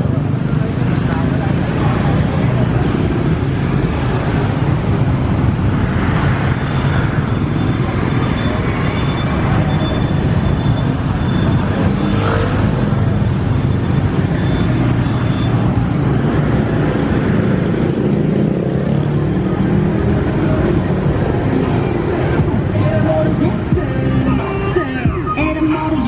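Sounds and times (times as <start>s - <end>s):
cars passing: 0.0s - 26.0s
motorbike and scooter traffic: 0.0s - 26.0s.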